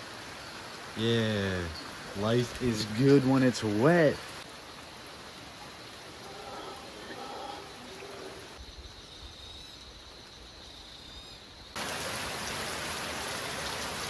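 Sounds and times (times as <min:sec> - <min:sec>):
rain falling on foliage: 0:00.0 - 0:10.9, 0:11.6 - 0:14.0.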